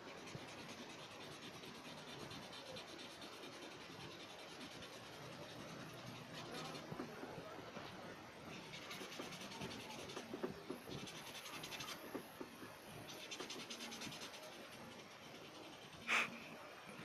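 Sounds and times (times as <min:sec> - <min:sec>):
pencil scratching on paper: 0:00.0 - 0:16.4.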